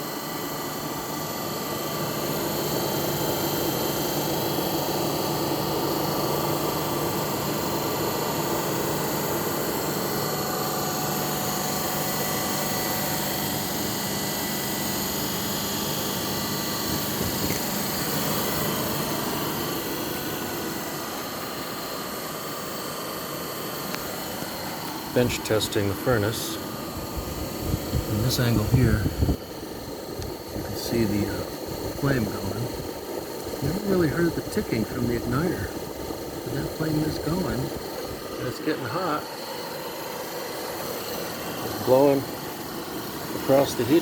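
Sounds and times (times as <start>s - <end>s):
furnace blower whooshing hum: 0.0s - 44.0s.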